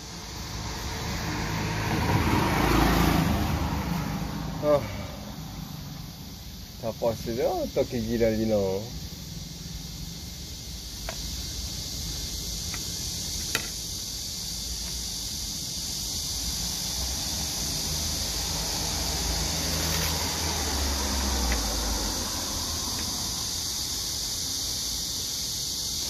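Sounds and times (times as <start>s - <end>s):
cicadas buzzing: 0.0s - 26.0s
vehicle rumble on road: 0.1s - 6.9s, 8.6s - 25.2s.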